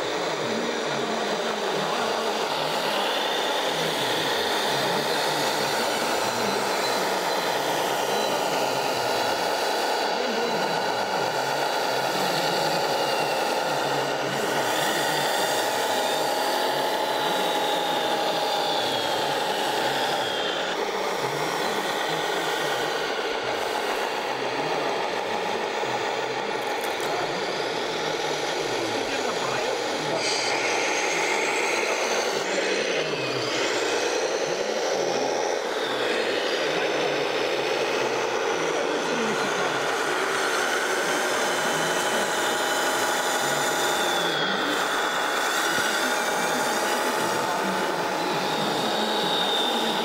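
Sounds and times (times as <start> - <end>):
small electric motors whining: 0.0 - 50.0.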